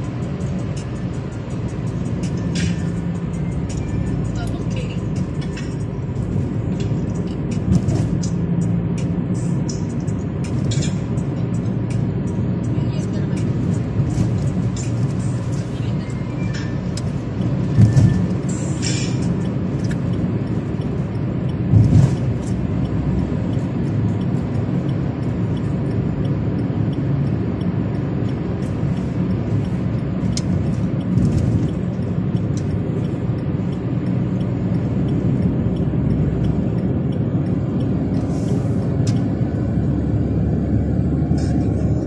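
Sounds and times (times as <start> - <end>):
car engine and tyre noise: 0.0 - 42.0.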